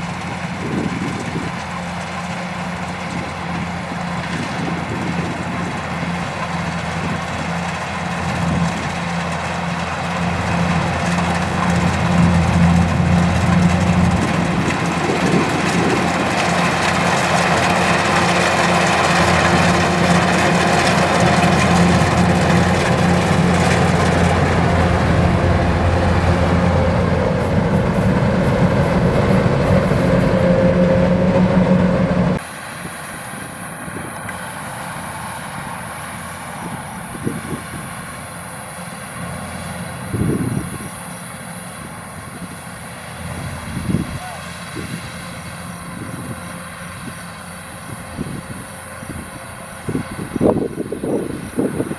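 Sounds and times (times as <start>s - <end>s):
combine harvester engine drone: 0.0s - 51.9s
distant machine drone: 0.0s - 51.9s.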